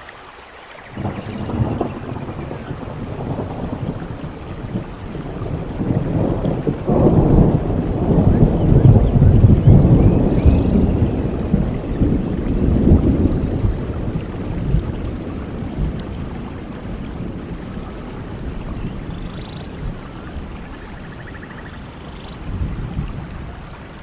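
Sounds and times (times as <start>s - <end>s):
steady rain: 0.0s - 24.0s
low rumble of thunder: 0.8s - 24.0s.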